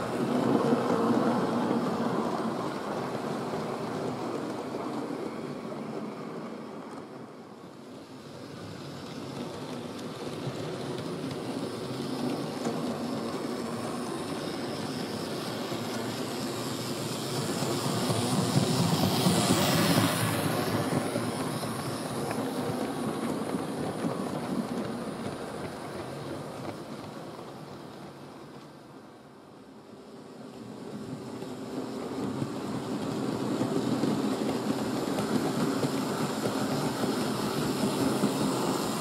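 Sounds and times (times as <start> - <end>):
model train passing on track: 0.0 - 39.0.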